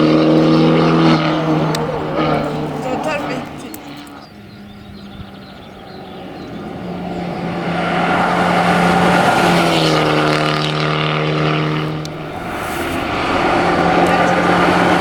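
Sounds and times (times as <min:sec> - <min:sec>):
car engine running hard passing: 0:00.0 - 0:15.0.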